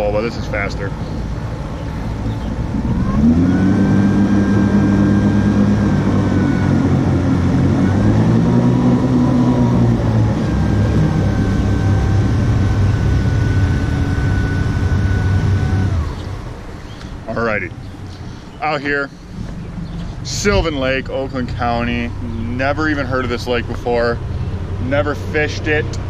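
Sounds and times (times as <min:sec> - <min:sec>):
boat motor revving: 0:00.0 - 0:26.0.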